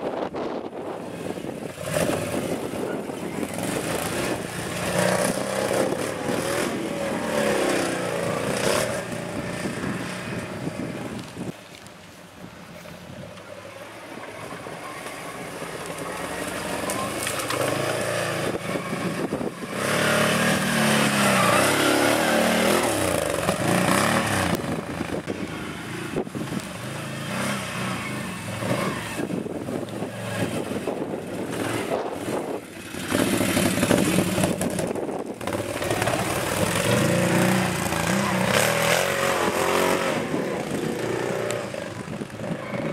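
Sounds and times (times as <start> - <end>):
quad engine revving: 0.8 - 11.2, 14.4 - 42.9.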